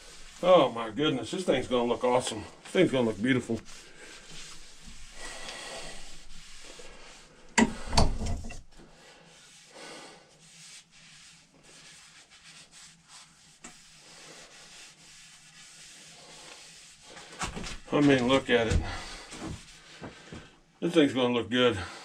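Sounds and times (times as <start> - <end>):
cloth rubbing wood: 0.0 - 20.5.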